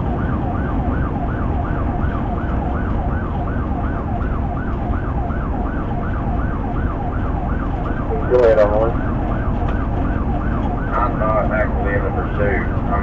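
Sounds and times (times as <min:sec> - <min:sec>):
police siren yelping: 0:00.0 - 0:13.0
road and engine rumble: 0:00.0 - 0:13.0.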